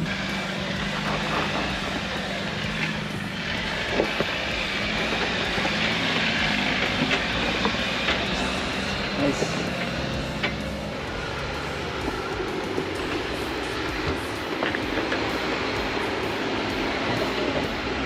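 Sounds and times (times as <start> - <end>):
tyres on gravel: 0.0 - 18.0
vehicle engine: 0.0 - 18.0.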